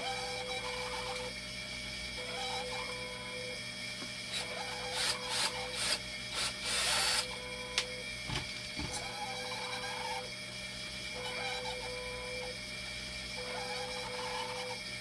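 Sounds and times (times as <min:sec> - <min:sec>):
electrical hum with thin tone: 0:00.0 - 0:15.0.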